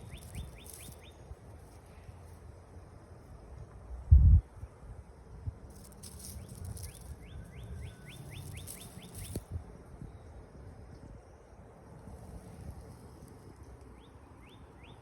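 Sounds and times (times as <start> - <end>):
high insect hiss: 0.0 - 15.0.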